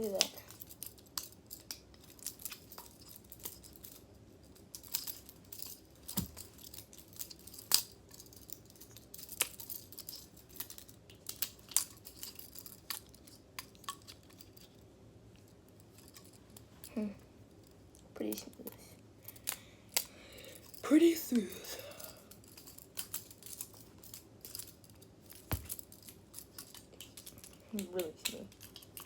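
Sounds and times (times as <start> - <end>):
metal knife handles clicking: 0.0 - 4.0, 4.7 - 14.8, 19.3 - 29.0.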